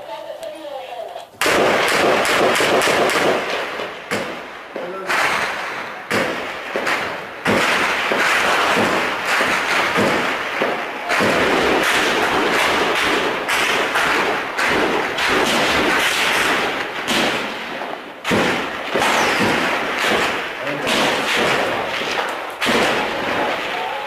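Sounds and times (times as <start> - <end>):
heavy gunfire: 1.4 - 24.0.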